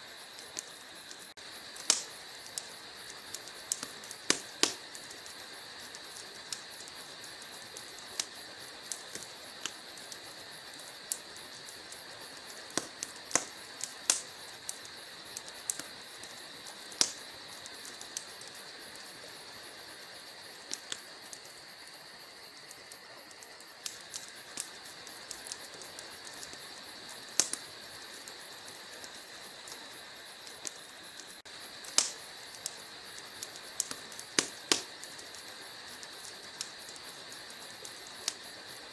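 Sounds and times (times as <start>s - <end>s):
fire crackling and popping: 0.0s - 38.9s
steady high hiss: 0.0s - 38.9s.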